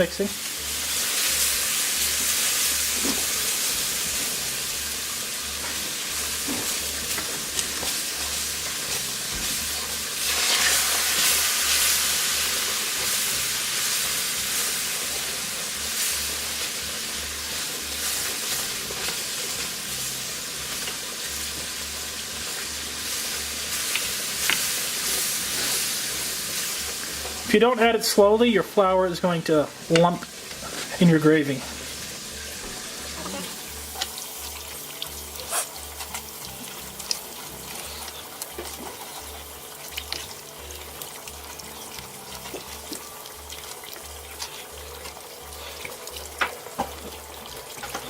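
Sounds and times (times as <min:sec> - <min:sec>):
roux sizzling in a pan: 0:00.0 - 0:48.0.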